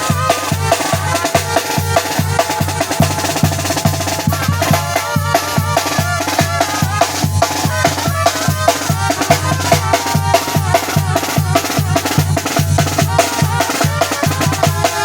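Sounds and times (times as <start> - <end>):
bass drum and snare beat: 0.0 - 15.0
trumpets and saxophones melody: 0.0 - 15.0.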